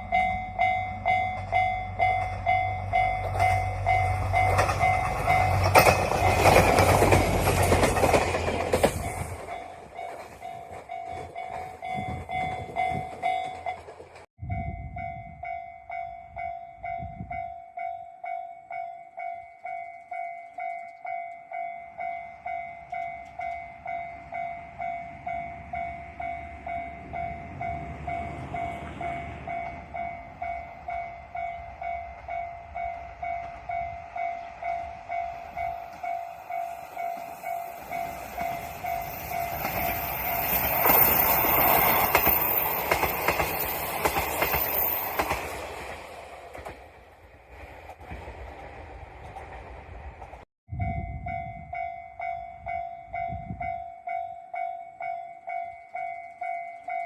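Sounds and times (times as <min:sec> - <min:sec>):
train rumbling past: 0:00.0 - 0:17.6, 0:21.5 - 0:57.0
level-crossing warning bell: 0:00.0 - 0:45.4, 0:50.7 - 0:57.0.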